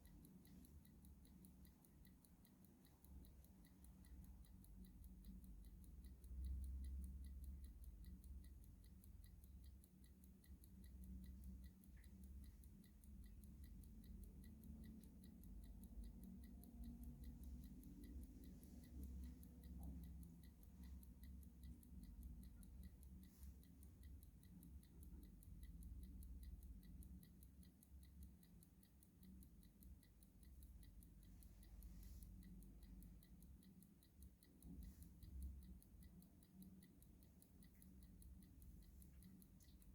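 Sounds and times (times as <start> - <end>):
clock ticking faintly: 0.0 - 39.9.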